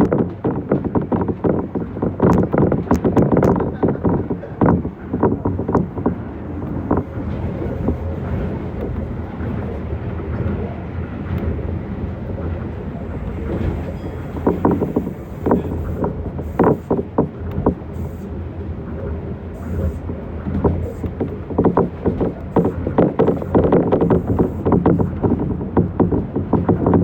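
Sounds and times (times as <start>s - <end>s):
monorail train rumble: 0.0s - 27.0s
wind noise: 0.0s - 27.0s.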